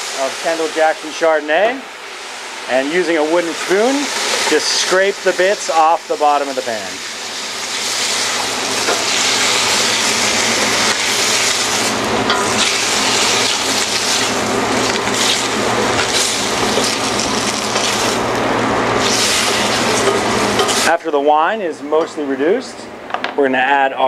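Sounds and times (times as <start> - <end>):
wine sizzling and bubbling in pan: 0.0 - 21.0.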